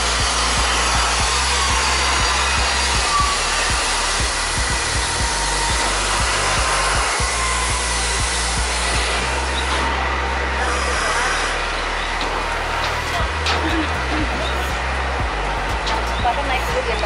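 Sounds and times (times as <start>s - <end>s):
locomotive engine and fan rushing: 0.0s - 17.0s
low even hum: 0.0s - 17.0s.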